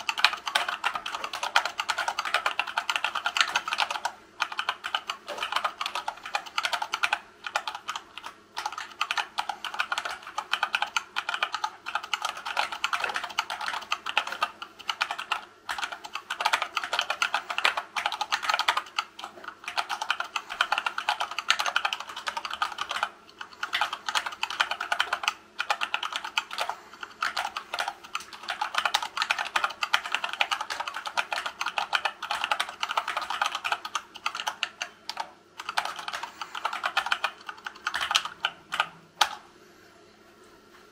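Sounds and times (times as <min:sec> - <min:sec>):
fast typing on keyboard: 0:00.0 - 0:39.4.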